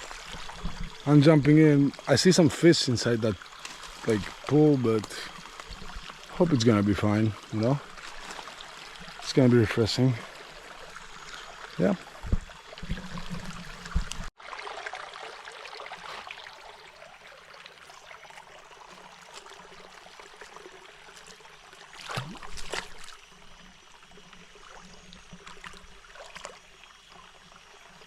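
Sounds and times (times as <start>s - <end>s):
stream water trickling: 0.0s - 28.0s.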